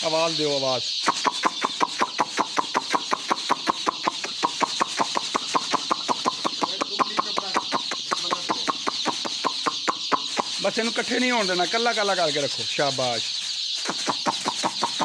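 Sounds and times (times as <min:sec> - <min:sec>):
chicks peeping: 0:00.0 - 0:15.0
rapid sharp clicks: 0:01.0 - 0:12.1, 0:13.8 - 0:15.0.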